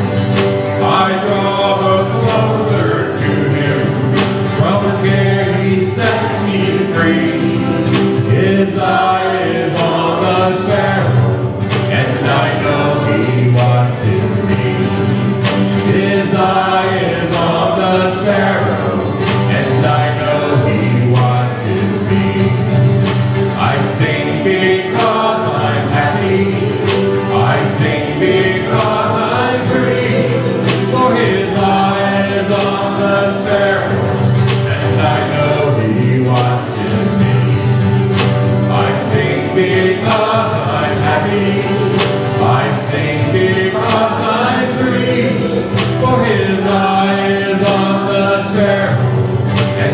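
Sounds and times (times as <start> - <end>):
group singing a hymn: 0.0 - 49.9.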